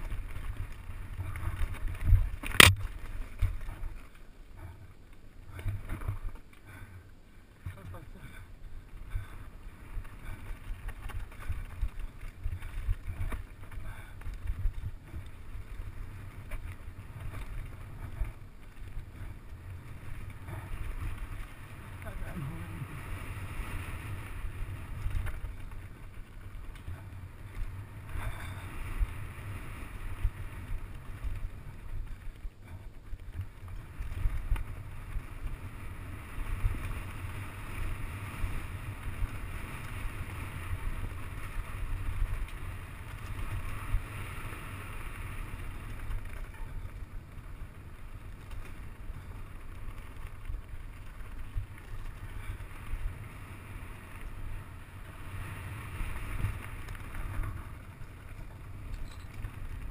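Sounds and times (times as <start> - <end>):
bike tyres rumbling and rattling: 0.0 - 59.9.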